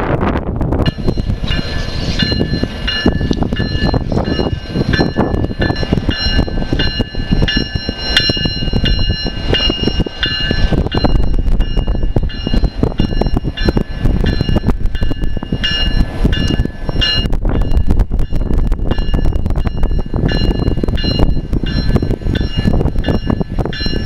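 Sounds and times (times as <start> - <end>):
locomotives rumbling and clattering: 0.0 - 24.0
locomotive bell ringing: 0.8 - 24.0.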